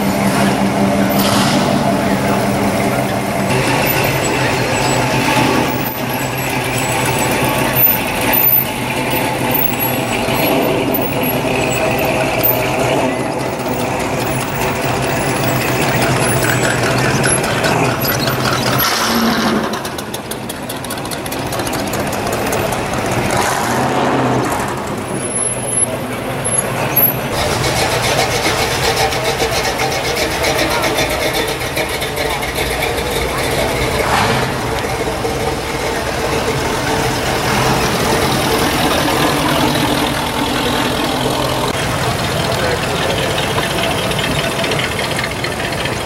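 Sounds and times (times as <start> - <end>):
cars driving slowly past: 0.0 - 46.0.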